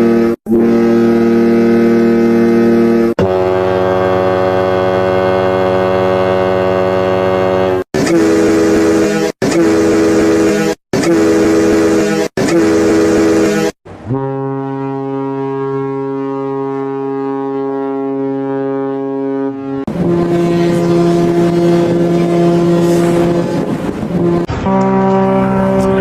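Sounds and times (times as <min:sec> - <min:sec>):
deep ship horn blast: 0:00.0 - 0:26.0
higher-pitched horn: 0:00.0 - 0:26.0.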